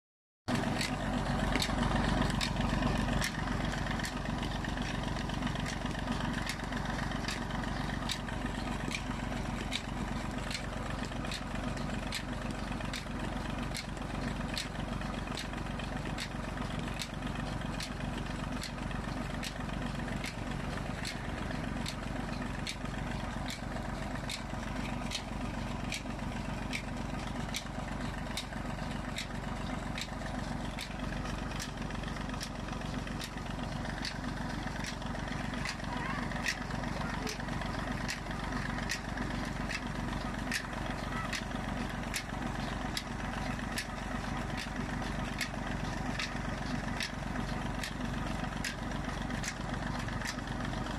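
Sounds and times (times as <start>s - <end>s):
diesel engine running steadily: 0.5s - 50.9s
water gushing from pipe: 0.5s - 50.9s.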